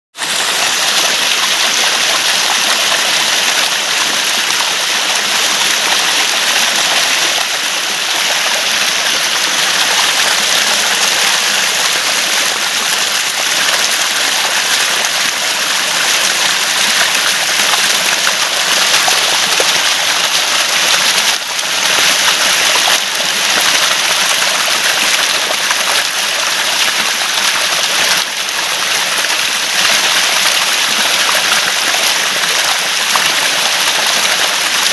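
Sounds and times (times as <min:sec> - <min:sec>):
water gurgling and rushing: 0:00.2 - 0:34.9.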